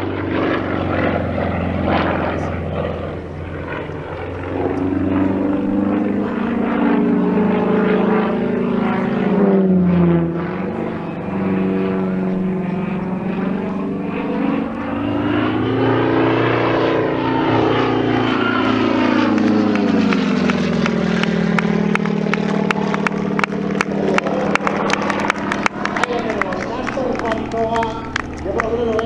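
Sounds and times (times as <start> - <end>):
propeller plane engine: 0.0 - 29.0.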